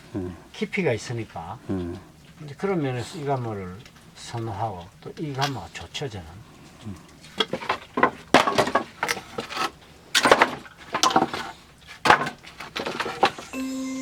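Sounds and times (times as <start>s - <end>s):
firewood clattering and knocking: 0.0s - 13.5s.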